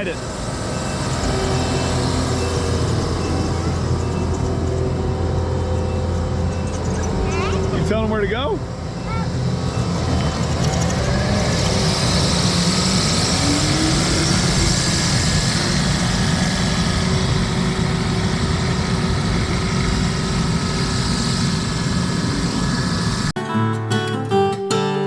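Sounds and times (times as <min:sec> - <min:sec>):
loader engine rumbling: 0:00.0 - 0:23.4.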